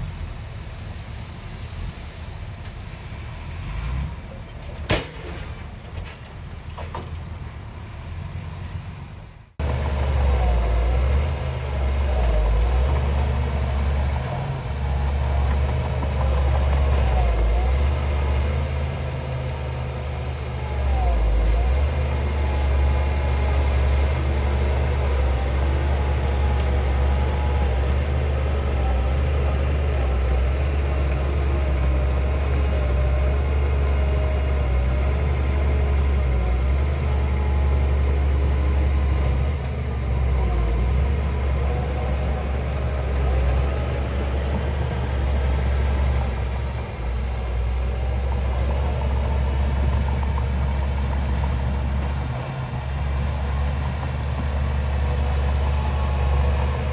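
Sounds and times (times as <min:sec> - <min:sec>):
heavy diesel engine droning: 0:00.0 - 0:56.9.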